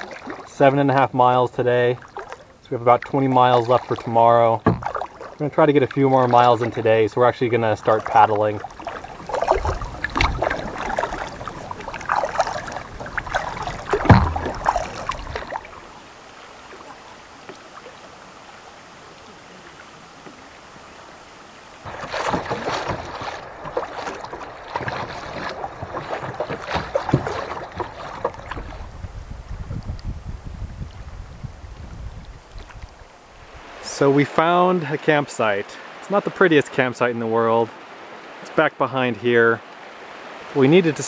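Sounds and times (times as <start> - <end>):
kayak paddle splashing: 0.0 - 30.0, 30.8 - 38.7, 39.6 - 41.0
steady water hiss: 0.0 - 41.0
water sloshing against kayak: 0.0 - 41.0.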